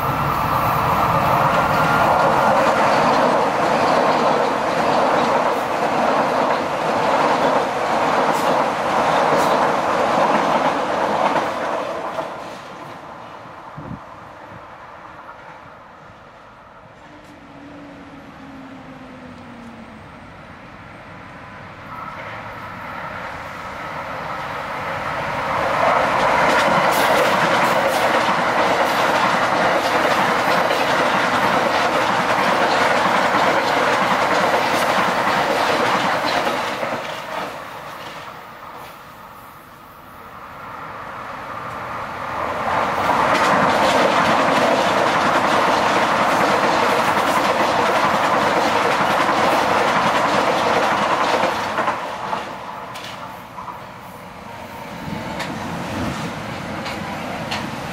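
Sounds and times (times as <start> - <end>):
electric trains passing on rails: 0.0 - 57.9.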